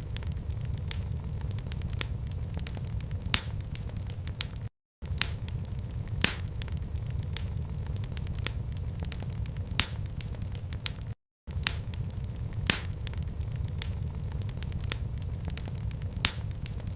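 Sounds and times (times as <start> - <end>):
wood fire crackling and popping: 0.0 - 16.9.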